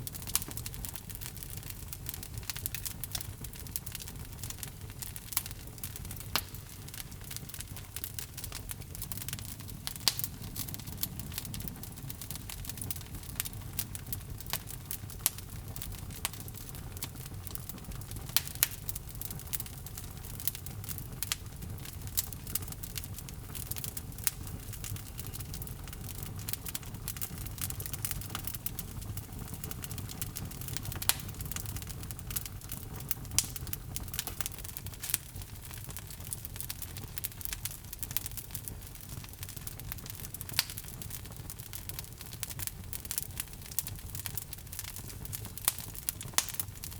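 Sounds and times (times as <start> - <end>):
logs crackling and popping: 0.0 - 46.9
low rumble of flames: 0.0 - 46.9.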